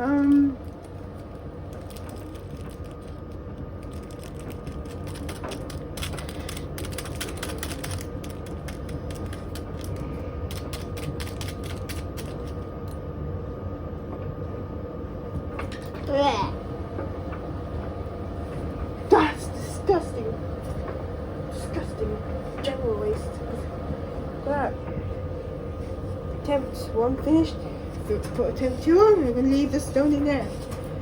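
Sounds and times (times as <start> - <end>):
washing machine motor whine: 0.0 - 31.0.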